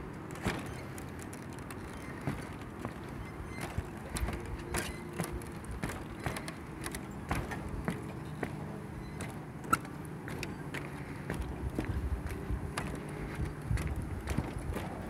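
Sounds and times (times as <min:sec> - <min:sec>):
footsteps on wooden planks: 0:00.3 - 0:15.0.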